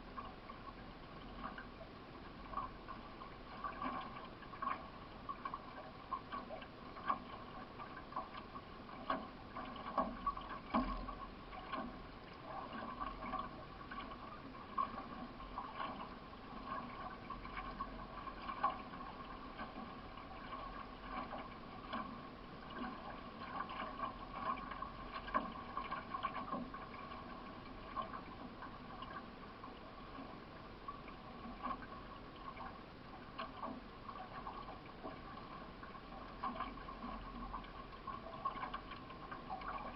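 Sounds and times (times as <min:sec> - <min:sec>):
paddle stroke splashes: 0:00.0 - 0:39.9
water splashing and gurgling: 0:00.0 - 0:39.9.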